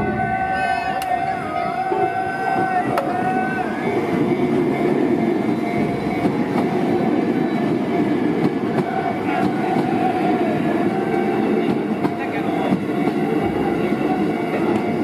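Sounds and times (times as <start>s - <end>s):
crossing bell ringing tone: 0.0s - 15.0s
train rumbling past: 0.0s - 15.0s.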